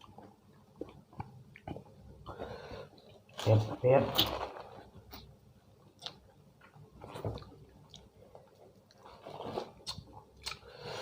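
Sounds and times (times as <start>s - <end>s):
person chewing food: 0.0s - 3.4s, 4.2s - 11.0s.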